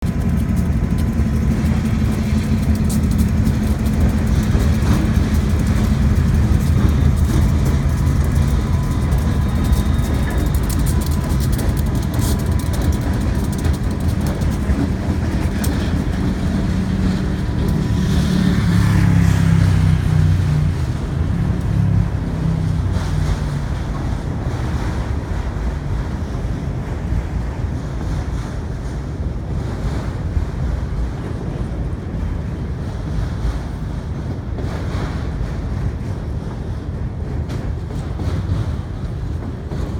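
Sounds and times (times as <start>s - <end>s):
locomotive engines droning: 0.0s - 39.9s.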